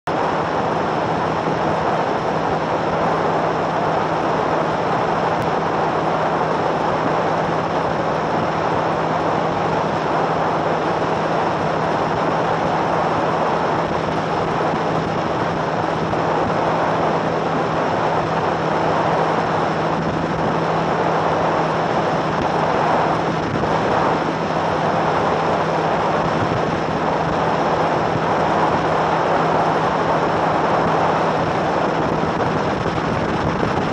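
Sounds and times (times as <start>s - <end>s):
rush of wind and water: 0.0s - 33.9s
outboard motor hum: 0.1s - 33.9s.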